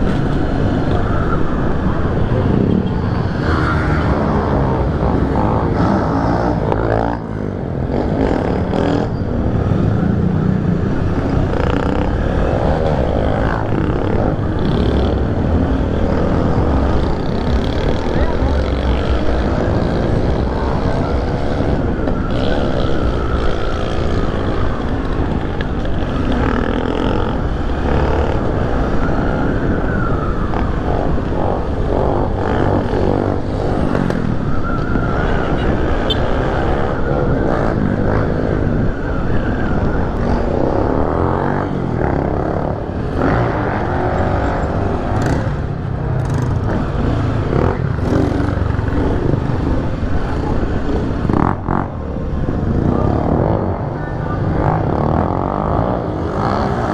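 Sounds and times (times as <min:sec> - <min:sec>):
other motorcycle engines: 0:00.0 - 0:56.9.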